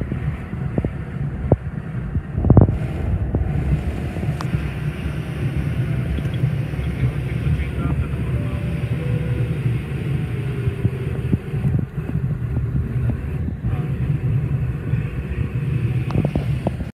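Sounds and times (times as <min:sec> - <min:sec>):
jet cockpit rumble: 0:00.0 - 0:16.9.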